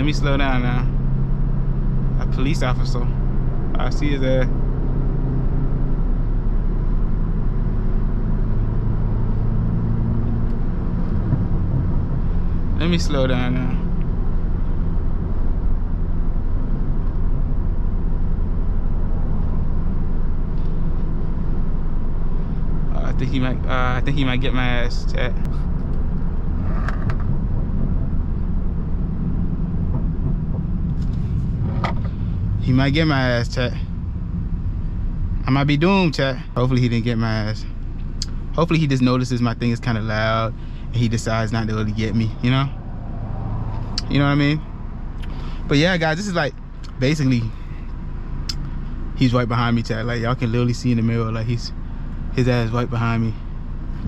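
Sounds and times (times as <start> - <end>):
car engine cruising: 0.0 - 54.0
road noise: 0.0 - 54.0.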